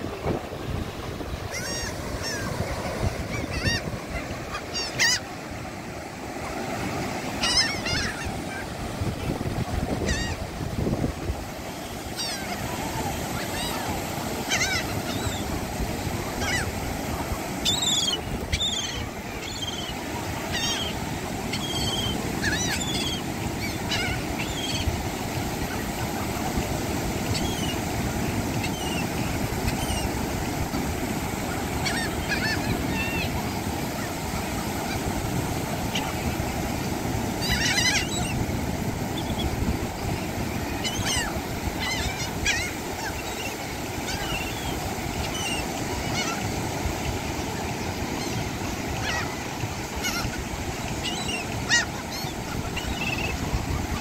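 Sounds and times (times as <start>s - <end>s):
surf rushing: 0.0s - 54.0s
wind: 0.0s - 54.0s
gulls squawking: 0.2s - 5.7s, 6.3s - 54.0s.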